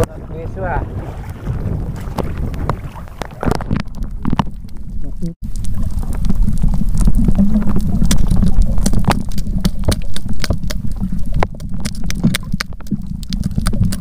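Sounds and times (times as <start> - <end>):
underwater rumble of water: 0.0 - 14.0
underwater clicks and crackles: 1.3 - 14.0.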